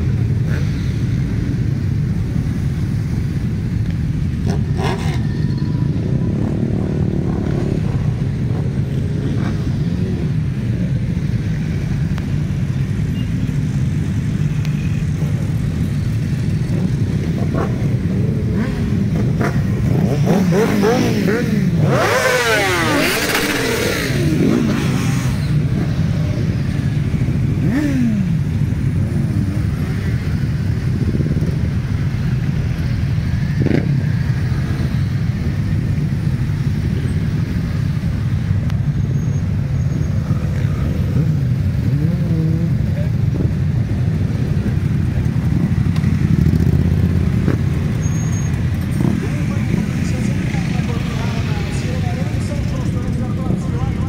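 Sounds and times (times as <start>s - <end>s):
motorcycle engines idling: 0.0s - 54.0s
motorcycle revving: 0.0s - 54.0s.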